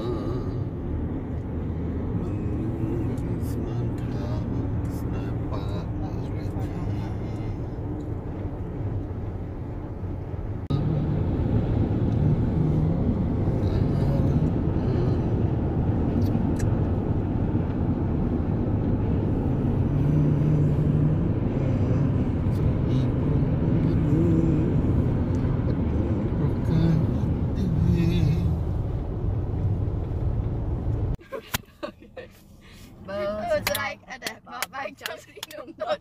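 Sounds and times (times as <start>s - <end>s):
car interior road noise: 0.0s - 36.0s.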